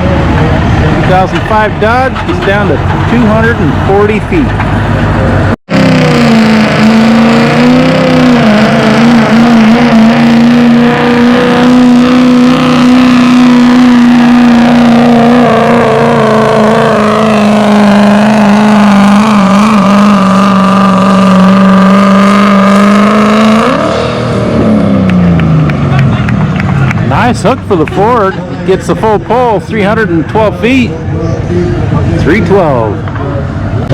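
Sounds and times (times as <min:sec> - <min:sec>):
truck engine at high revs: 0:00.0 - 0:33.9.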